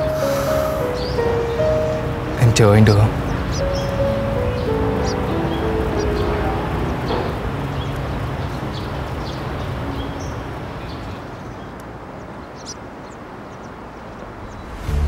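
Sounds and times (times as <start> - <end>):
high bird chirps: 0.0 - 14.9
outdoor background noise: 0.0 - 15.0.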